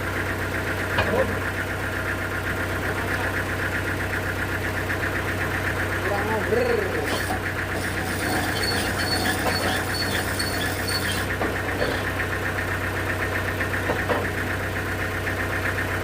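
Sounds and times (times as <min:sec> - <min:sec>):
engine idling with knocking pulse: 0:00.0 - 0:16.0.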